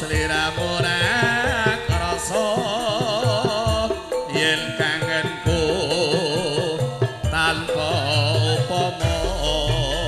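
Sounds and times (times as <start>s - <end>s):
gamelan music: 0.0s - 10.0s
person singing with vibrato: 0.0s - 10.0s.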